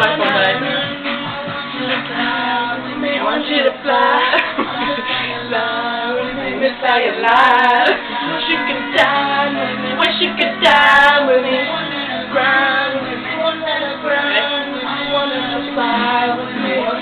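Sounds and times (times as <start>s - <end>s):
pop music: 0.0s - 17.0s
woman singing into microphone: 0.0s - 17.0s.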